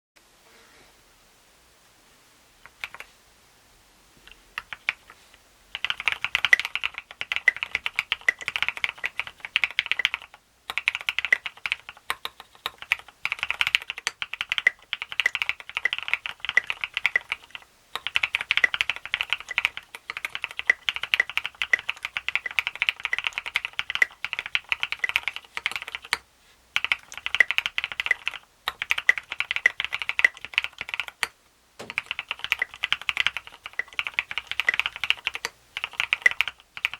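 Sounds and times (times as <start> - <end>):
mechanical keyboard typing: 2.7 - 3.1, 4.6 - 26.2, 26.8 - 36.9.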